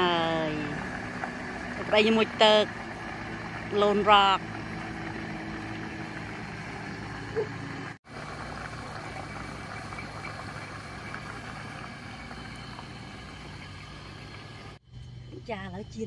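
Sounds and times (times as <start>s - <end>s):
hot oil sizzling and bubbling: 0.0s - 14.8s
steady low hum: 0.0s - 16.0s.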